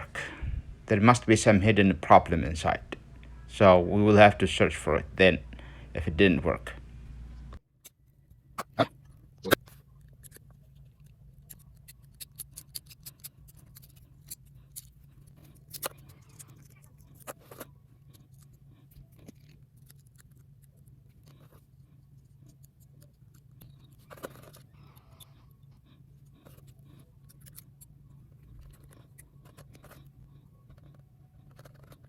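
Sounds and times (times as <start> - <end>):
low steady hum: 0.0 - 12.6, 13.3 - 32.0.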